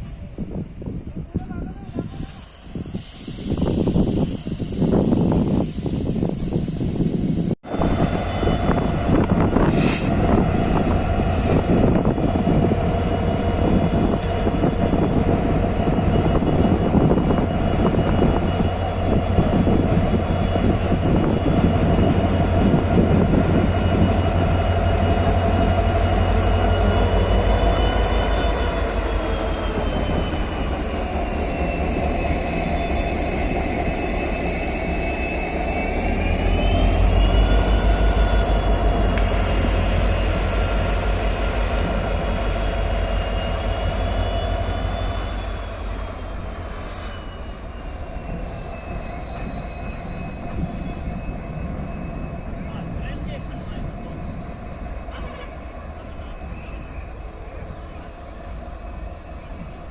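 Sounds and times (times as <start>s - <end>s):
train engine: 0.0s - 59.9s
train low rumble: 0.0s - 59.9s.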